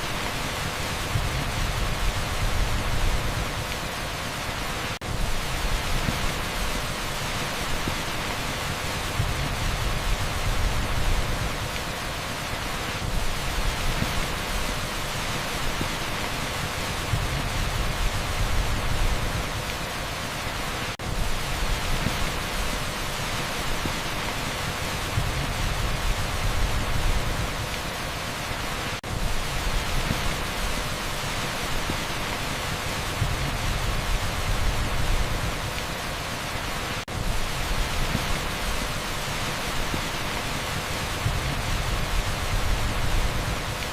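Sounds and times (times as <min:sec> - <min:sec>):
heavy rain on asphalt: 0:00.0 - 0:43.9
pink noise hiss: 0:00.0 - 0:43.9.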